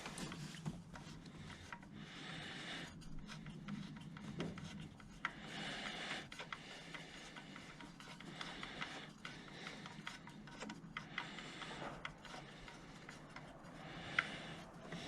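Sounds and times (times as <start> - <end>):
hand tools clicking and tapping: 2.9 - 15.0.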